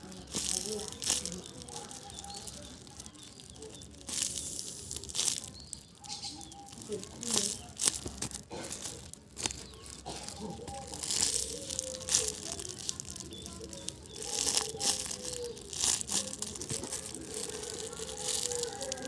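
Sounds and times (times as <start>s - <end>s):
plastic toy crinkling when squeezed: 0.0s - 19.0s.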